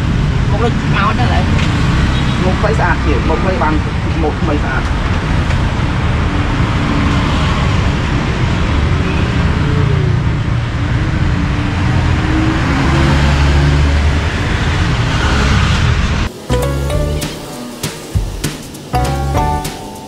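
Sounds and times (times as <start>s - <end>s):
traffic rumble: 0.0s - 19.6s.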